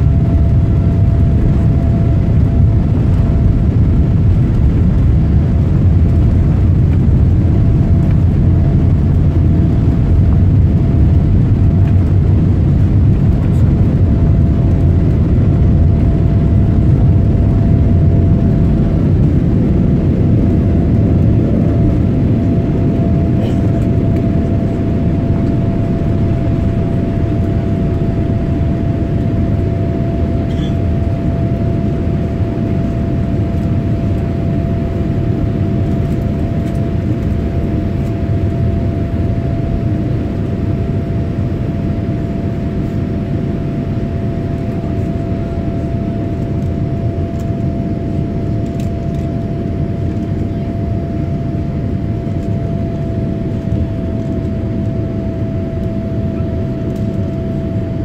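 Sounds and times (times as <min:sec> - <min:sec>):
jet engines whining and rumbling: 0:00.0 - 0:58.0.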